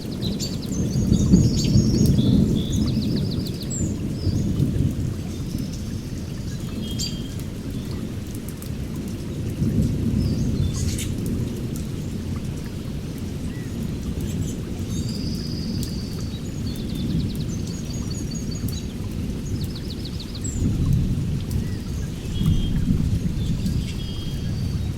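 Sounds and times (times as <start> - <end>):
heavy rain pouring: 0.0 - 24.9
thunder rumbling: 0.0 - 24.9.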